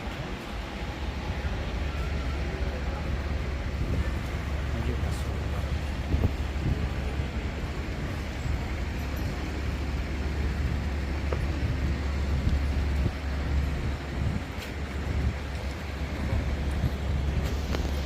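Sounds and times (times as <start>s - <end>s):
street noise hiss: 0.0s - 18.0s
traffic rumble: 0.0s - 18.0s.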